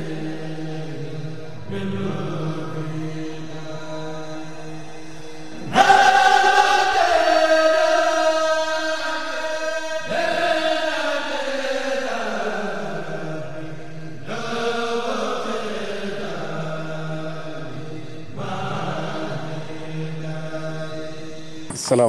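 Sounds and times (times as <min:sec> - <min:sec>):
voices chanting in long notes: 0:00.0 - 0:22.0.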